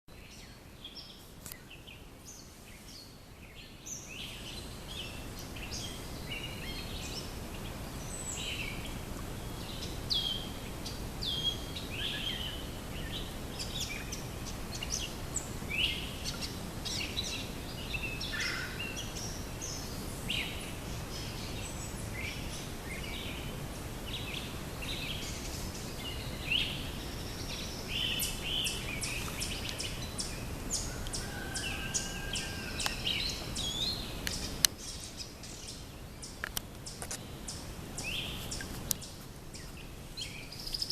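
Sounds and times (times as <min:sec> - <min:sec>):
low background noise: 0:00.1 - 0:40.9
songbirds chirping: 0:00.1 - 0:40.9.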